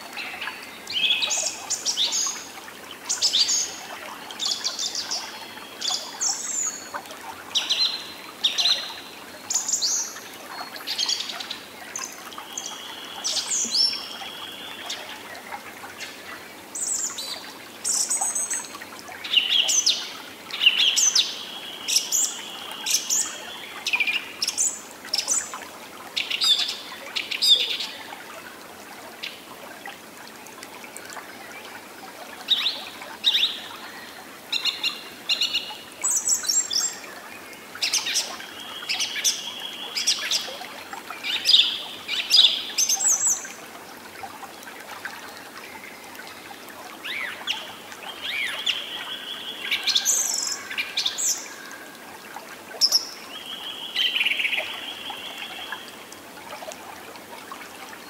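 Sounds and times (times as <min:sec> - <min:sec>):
soft steady background hiss: 0:00.0 - 0:58.0.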